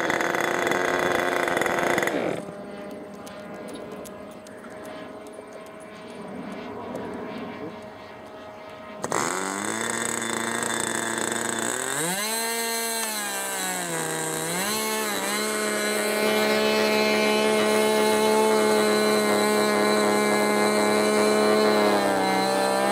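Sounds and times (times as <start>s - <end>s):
model airplane engine running: 0.0s - 22.9s.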